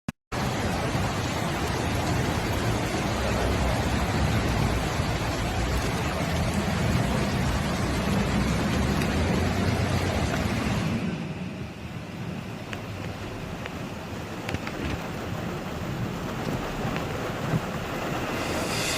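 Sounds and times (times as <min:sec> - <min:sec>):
floodwater rushing: 0:00.3 - 0:18.9.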